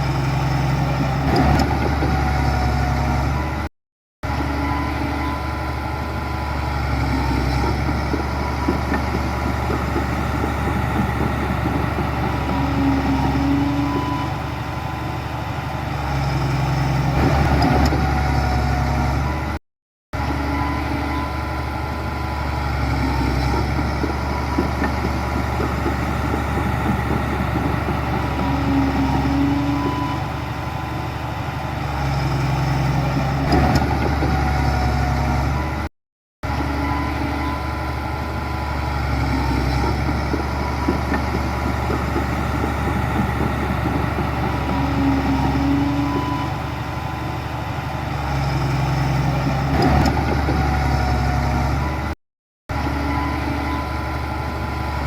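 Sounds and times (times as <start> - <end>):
heavy diesel engine running: 0.0 - 19.6, 20.2 - 55.0.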